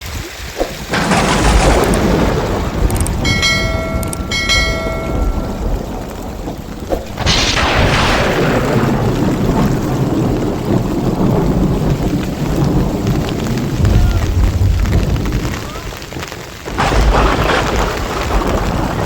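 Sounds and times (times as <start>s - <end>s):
falling rain: 0.0s - 19.0s
thunderclap and rolling rumble: 0.0s - 19.0s.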